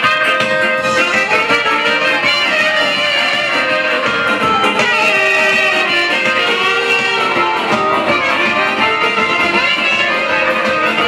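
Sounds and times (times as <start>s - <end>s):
electric guitar: 0.0s - 11.0s
saxophone: 0.0s - 11.0s.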